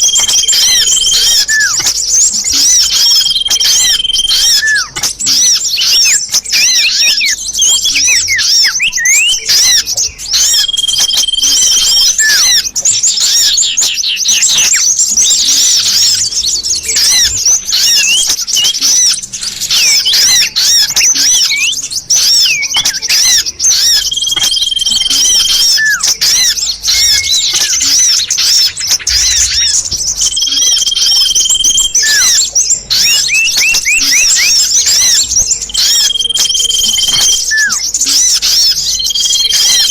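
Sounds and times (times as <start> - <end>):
held whistle: 0.0 - 12.6, 16.9 - 39.9
bird calls through loudspeaker: 0.0 - 39.9.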